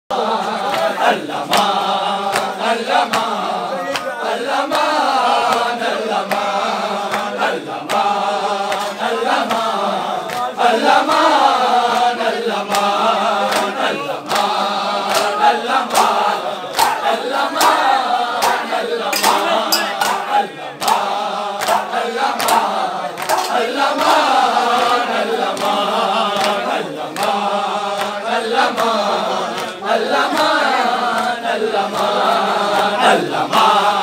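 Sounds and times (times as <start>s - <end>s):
men chanting a lament: 0.1s - 34.0s
hands slapping chests: 0.6s - 11.2s, 12.7s - 33.8s.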